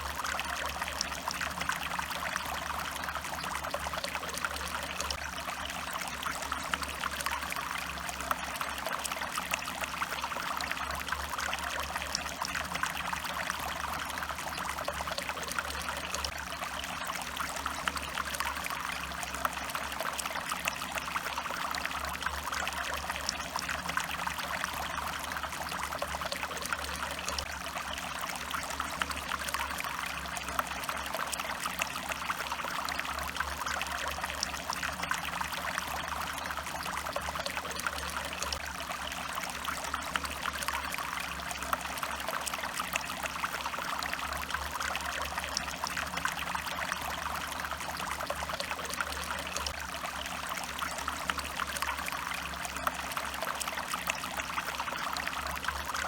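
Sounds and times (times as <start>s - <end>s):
stream trickling over stones: 0.0s - 56.0s.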